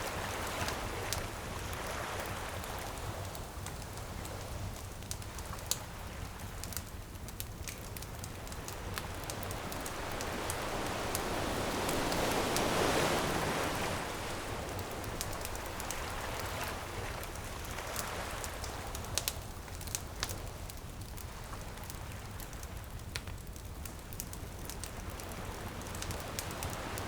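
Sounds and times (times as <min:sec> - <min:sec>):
campfire crackling and popping: 0:00.0 - 0:27.0
ocean waves washing onto beach: 0:00.0 - 0:27.0.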